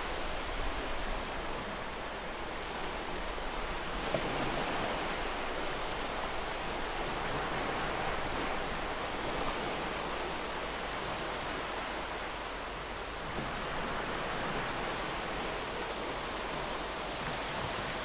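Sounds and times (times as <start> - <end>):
ocean waves breaking on shore: 0.0 - 18.0.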